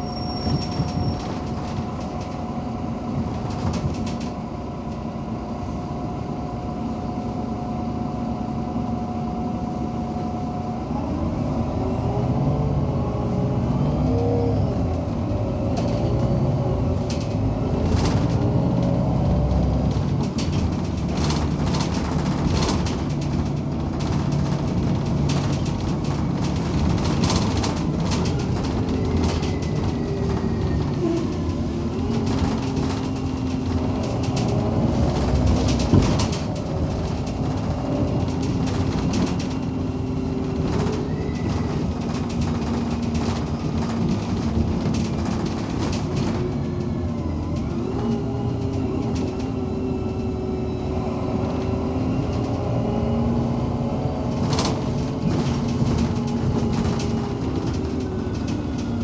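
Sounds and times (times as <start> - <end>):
bus diesel engine rumbling: 0.0 - 59.0.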